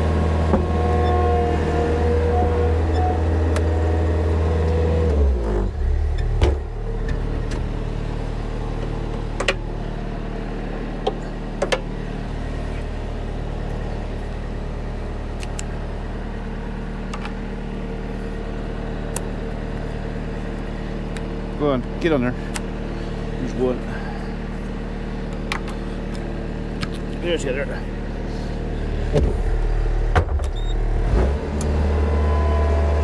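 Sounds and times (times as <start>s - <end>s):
loader engine revving and idling: 0.0s - 33.0s.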